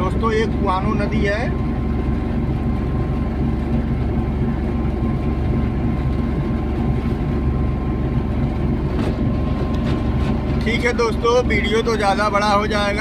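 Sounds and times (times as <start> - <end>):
vehicle cabin engine and road drone: 0.0 - 13.0.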